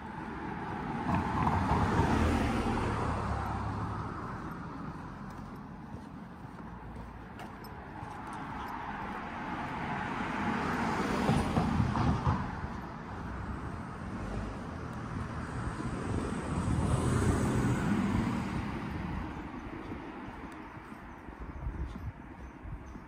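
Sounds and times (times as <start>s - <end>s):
cars passing: 0.0s - 23.0s.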